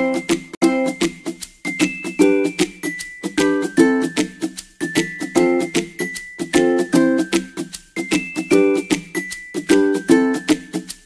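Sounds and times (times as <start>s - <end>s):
upbeat plucked-string music: 0.0s - 11.0s.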